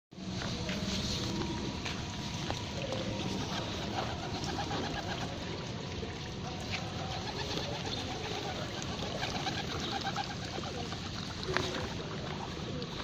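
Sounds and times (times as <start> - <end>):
steady background noise: 0.1 - 13.0
pigeons cooing: 0.8 - 13.0.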